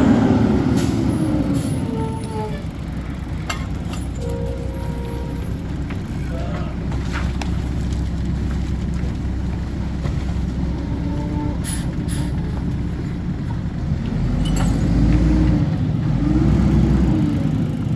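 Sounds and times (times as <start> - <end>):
diesel engine rumbling and revving: 0.0 - 17.9.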